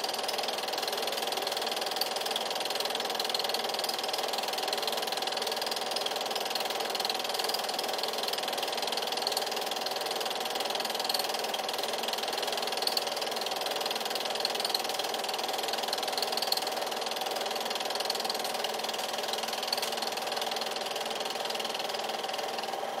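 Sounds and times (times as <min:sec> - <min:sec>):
film projector whirring: 0:00.0 - 0:23.0.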